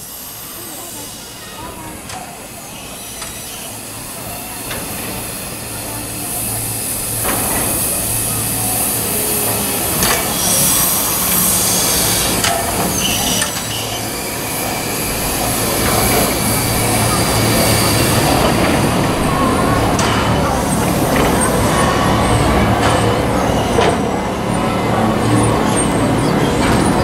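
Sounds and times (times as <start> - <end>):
steam hiss: 0.0 - 27.0
machinery clanks and knocks: 1.6 - 27.0.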